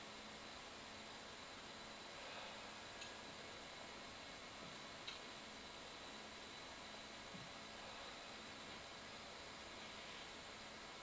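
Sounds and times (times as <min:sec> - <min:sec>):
faint recording hiss: 0:00.0 - 0:11.0.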